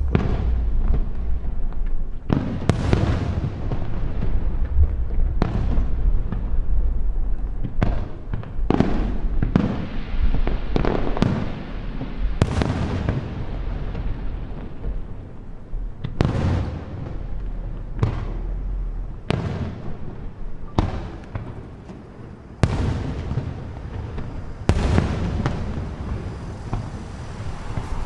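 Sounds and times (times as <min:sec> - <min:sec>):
fireworks bangs with echo: 0:00.0 - 0:28.0.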